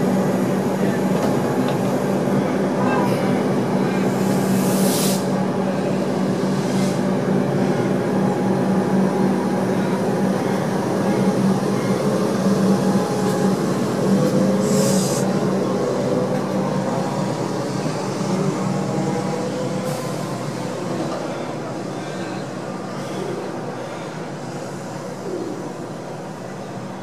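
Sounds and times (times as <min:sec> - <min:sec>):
electric train hum and rolling wheels: 0:00.0 - 0:27.0.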